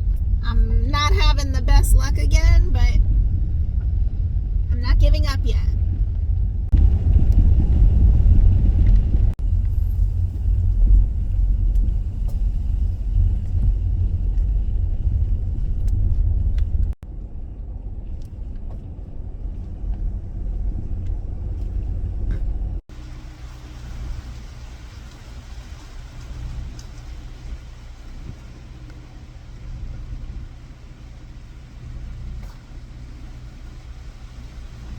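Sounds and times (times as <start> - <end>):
minivan driving rumble: 0.0 - 34.9.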